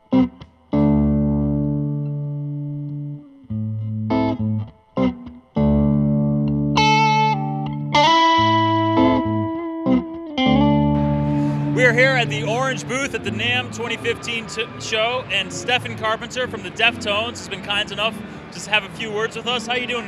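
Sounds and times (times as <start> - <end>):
distorted electric guitar chords: 0.0 - 17.4
electric guitar lead melody: 0.0 - 20.0.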